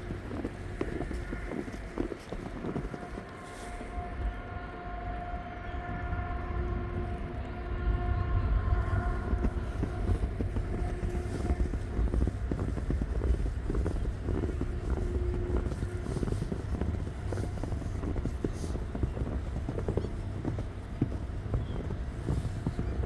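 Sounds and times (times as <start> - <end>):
steady low traffic rumble: 0.0 - 23.0
vehicle whine: 0.0 - 23.0.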